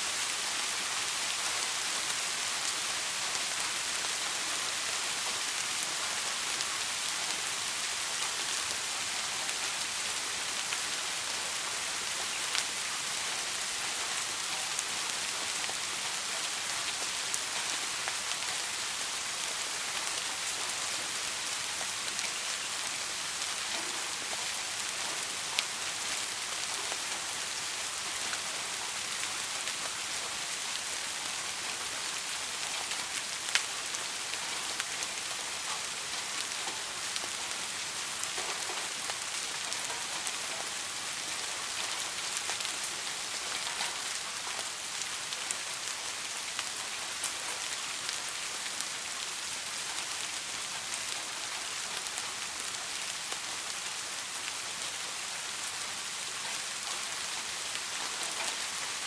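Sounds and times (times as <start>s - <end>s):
soft rain hissing: 0.0s - 59.0s.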